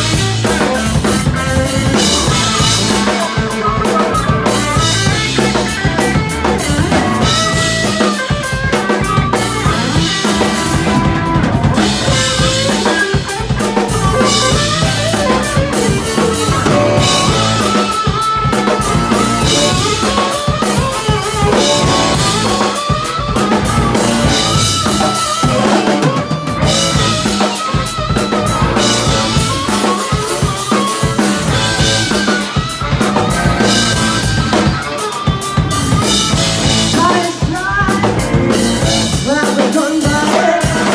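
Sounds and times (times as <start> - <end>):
drum kit kick snare and rimshots: 0.0 - 40.9
live band playing: 0.0 - 40.9.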